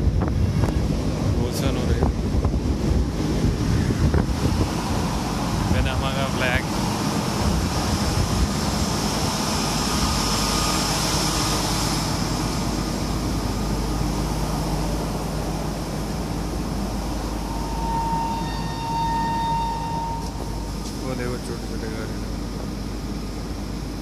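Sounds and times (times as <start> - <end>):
ship machinery drone: 0.0 - 24.0.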